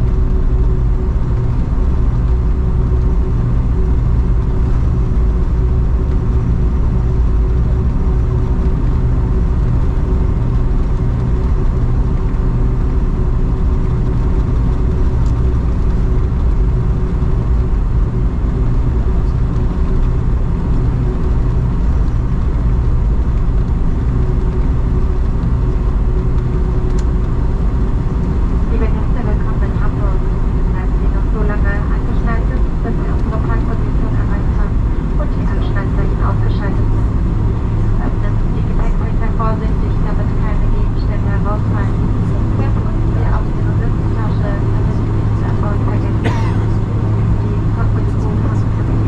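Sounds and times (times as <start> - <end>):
airliner cabin engine rumble: 0.0 - 49.0.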